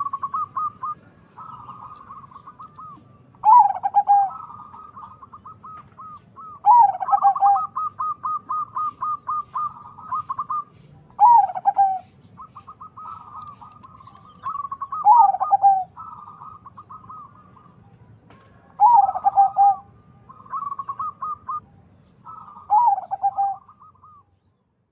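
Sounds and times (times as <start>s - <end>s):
doves cooing: 0.0s - 24.3s.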